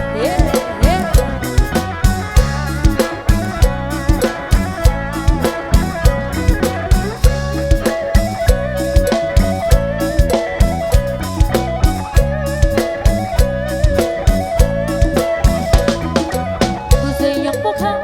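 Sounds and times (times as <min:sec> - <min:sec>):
live band playing instrumental: 0:00.0 - 0:18.0.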